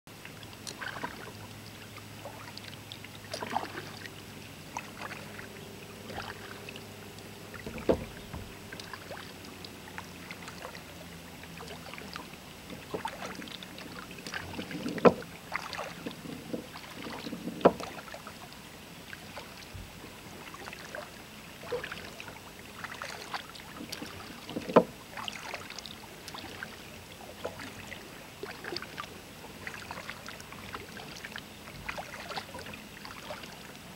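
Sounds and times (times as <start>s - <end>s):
kayak paddle splashing water: 0.1s - 33.9s.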